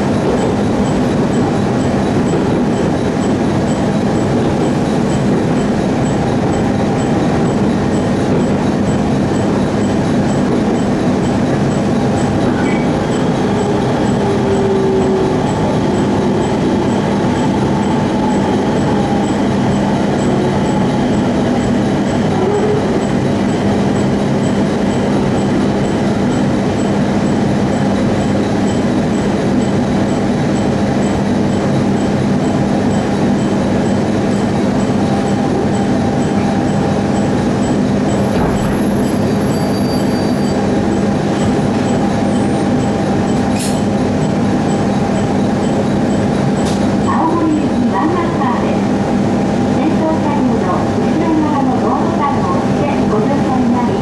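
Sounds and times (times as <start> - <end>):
train wheels rumbling: 0.0 - 48.5.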